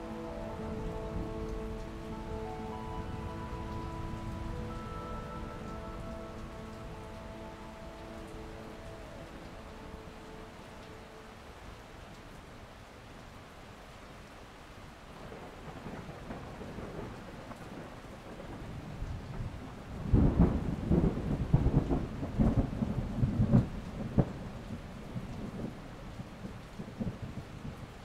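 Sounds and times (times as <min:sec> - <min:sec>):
thunder rumbling: 0:00.0 - 0:11.8, 0:15.2 - 0:27.8
steady rain: 0:00.0 - 0:28.0.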